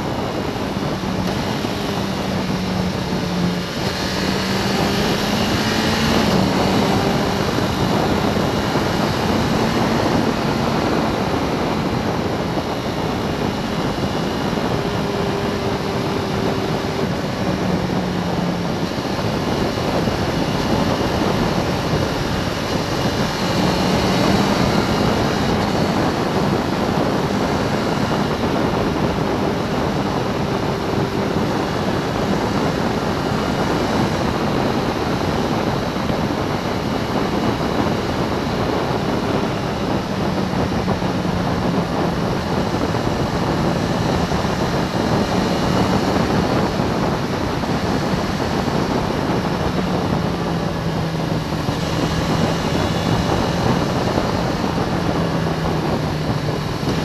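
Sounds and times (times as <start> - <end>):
motorcycle engine drone: 0.0 - 57.0
wind rush on microphone: 0.0 - 57.0.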